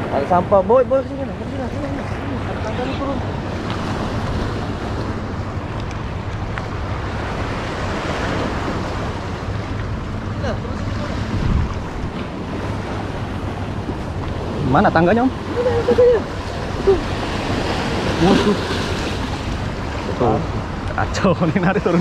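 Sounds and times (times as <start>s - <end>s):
wind buffeting microphone: 0.0s - 22.0s
waves washing against rocks: 1.6s - 20.8s.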